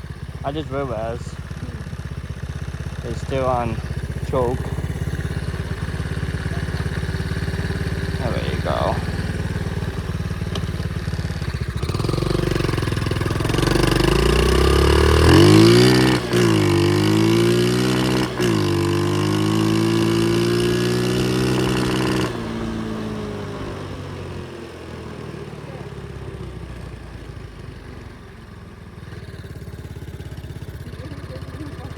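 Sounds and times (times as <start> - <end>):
motorbike engine idling and revving: 0.0 - 31.9.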